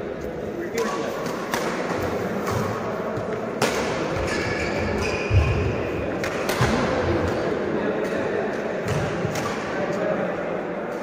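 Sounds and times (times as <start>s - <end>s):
rackets hitting shuttlecock: 0.7s - 9.8s.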